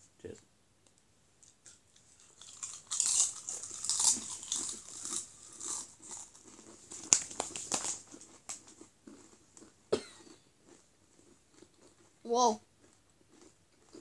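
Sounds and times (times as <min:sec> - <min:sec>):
chips being chewed: 0:01.4 - 0:14.0.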